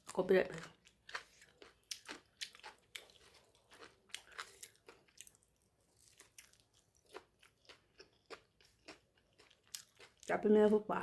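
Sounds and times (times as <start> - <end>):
chewing crispy fried food: 0.0 - 10.4.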